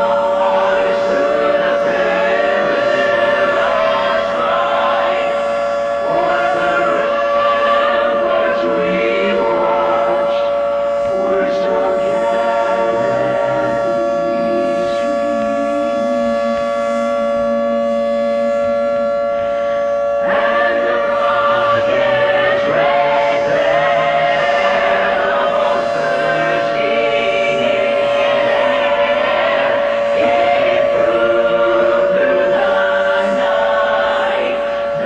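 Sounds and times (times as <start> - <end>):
eerie choir-like voices: 0.0 - 35.0
sirens steady tone: 0.0 - 35.0.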